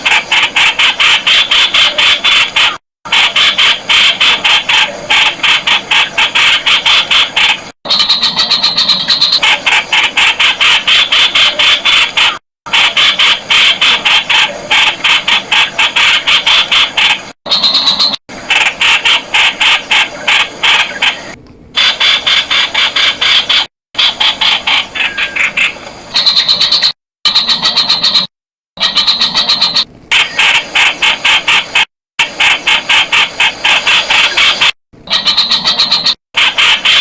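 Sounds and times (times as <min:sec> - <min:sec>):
bird calling harsh notes: 0:00.0 - 0:37.0.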